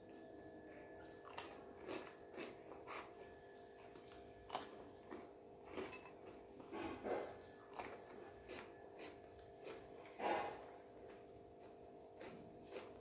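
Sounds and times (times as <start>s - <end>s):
person chewing food: 1.0s - 13.0s.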